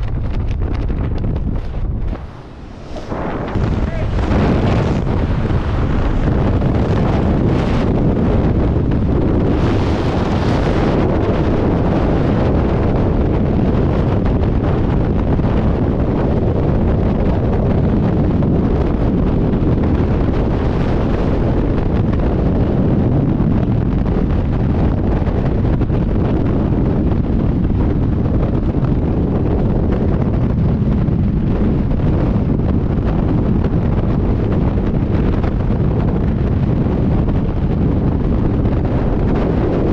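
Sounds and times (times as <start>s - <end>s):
wind noise over microphone: 0.0s - 39.9s.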